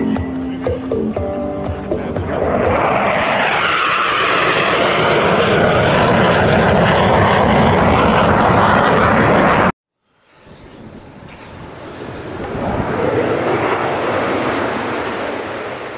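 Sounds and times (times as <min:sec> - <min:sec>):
fighter jet flying past: 0:01.6 - 0:15.9.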